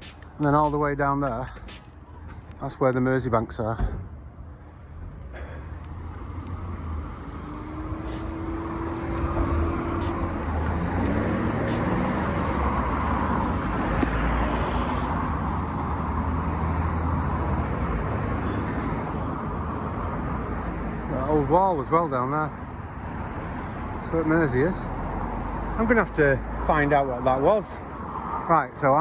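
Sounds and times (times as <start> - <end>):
rumble of cars going by: 0.0 - 29.0.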